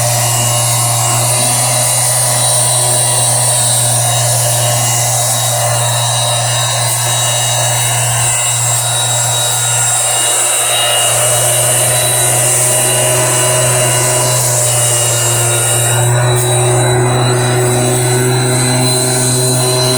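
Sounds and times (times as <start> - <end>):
small engine running steadily: 0.0 - 19.9.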